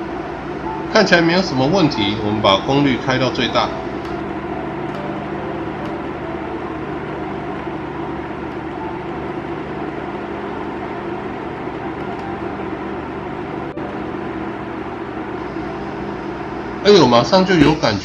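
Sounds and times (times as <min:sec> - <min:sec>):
cooling fan whirring: 0:00.0 - 0:18.0
electrical hum: 0:00.0 - 0:18.0.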